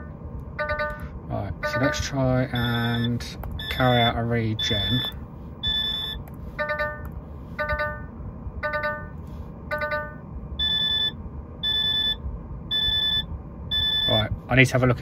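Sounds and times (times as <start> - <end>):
truck warning buzzer beeping: 0.0 - 14.3.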